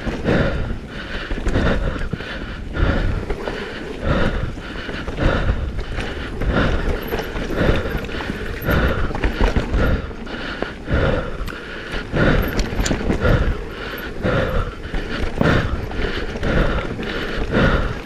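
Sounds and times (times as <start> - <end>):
bike frame and chain rattling: 0.0 - 18.0
bike tyres over dirt and rocks: 0.0 - 18.0.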